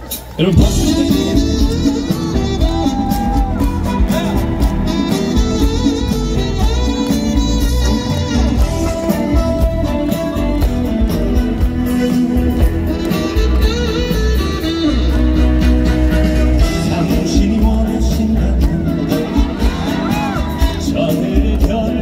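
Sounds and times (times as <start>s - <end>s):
live band music: 0.0s - 22.0s
person singing: 0.4s - 12.4s, 16.1s - 22.0s.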